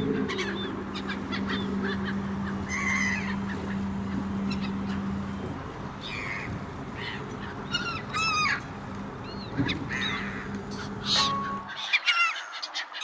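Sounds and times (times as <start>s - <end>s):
ferry engine hum: 0.0s - 12.0s
gulls calling: 0.0s - 13.0s.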